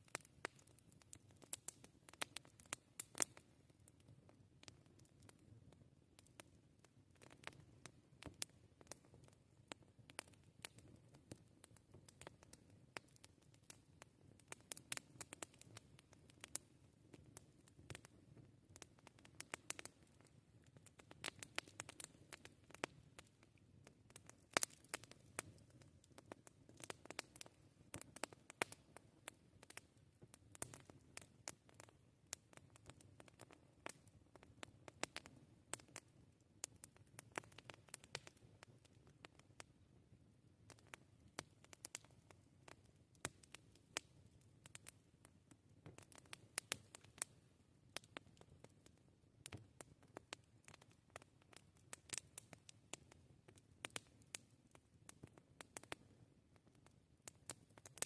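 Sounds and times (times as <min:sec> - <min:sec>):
campfire crackling: 0:00.0 - 0:39.8, 0:40.6 - 0:58.0.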